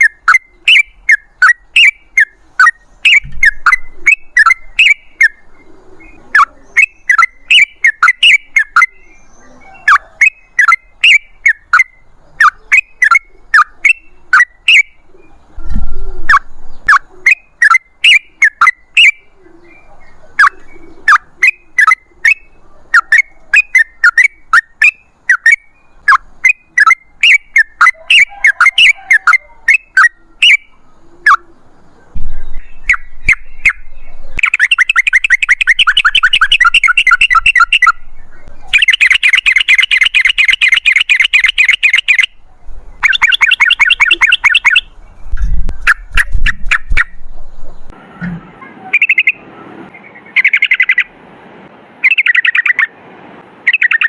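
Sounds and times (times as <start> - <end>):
bird singing sharp notes: 0.0 - 48.0.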